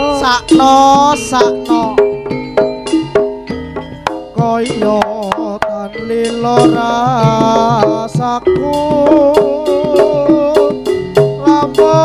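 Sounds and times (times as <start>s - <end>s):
band accompaniment: 0.0s - 12.0s.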